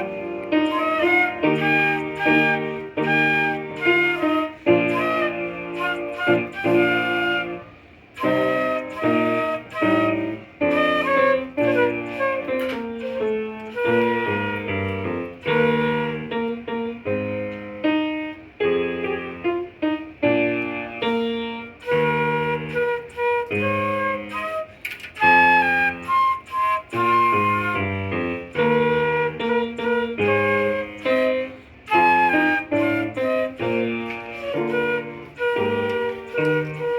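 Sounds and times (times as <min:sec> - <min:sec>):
flute and woodwinds: 0:00.0 - 0:17.0, 0:21.1 - 0:36.9.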